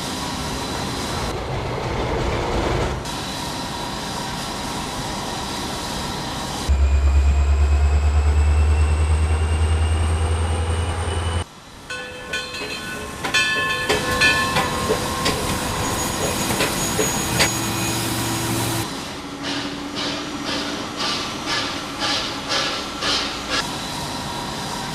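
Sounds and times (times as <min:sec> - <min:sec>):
pulsing train engine rumble: 0:00.0 - 0:24.9.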